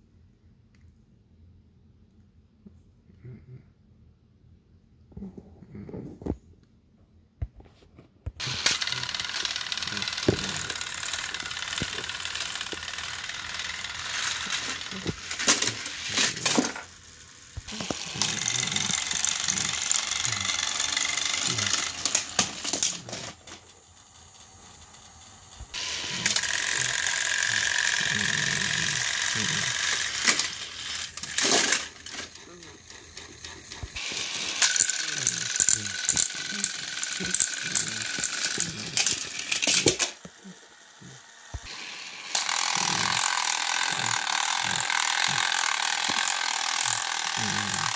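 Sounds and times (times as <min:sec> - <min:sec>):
small electric motors whirring: 0:08.4 - 0:47.9
toy wheels clicking and rattling: 0:08.4 - 0:47.9.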